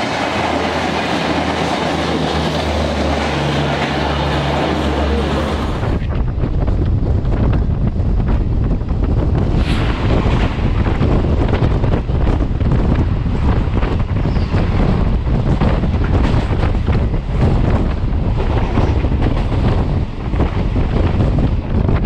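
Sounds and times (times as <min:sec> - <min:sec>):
passing train wheel clatter: 0:00.0 - 0:22.0
wind buffeting the microphone: 0:00.0 - 0:22.0.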